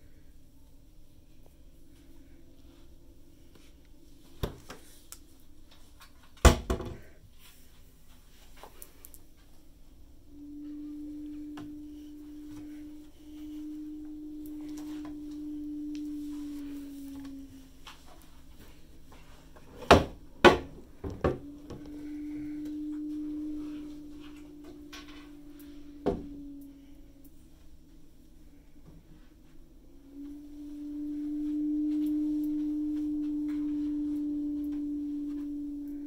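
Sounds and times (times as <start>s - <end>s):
steady single-pitched hum: 0.0s - 36.0s.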